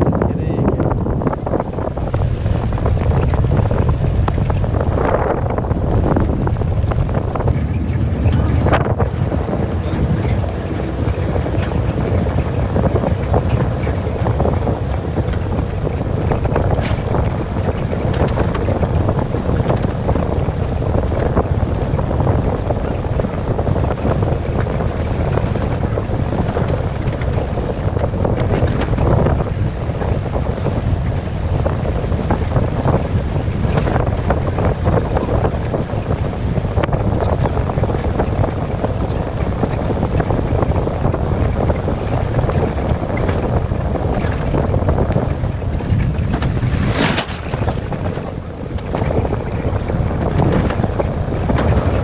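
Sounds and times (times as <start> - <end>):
vehicle engine rumble: 0.0 - 52.0.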